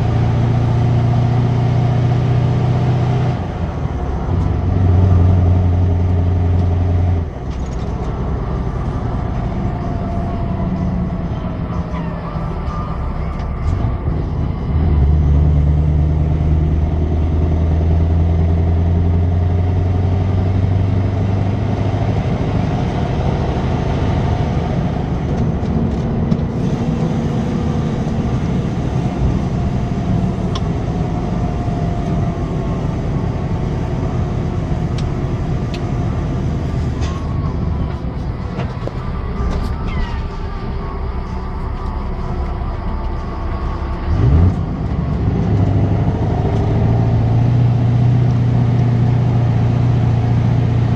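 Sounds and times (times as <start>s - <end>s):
truck diesel engine: 0.0s - 50.9s.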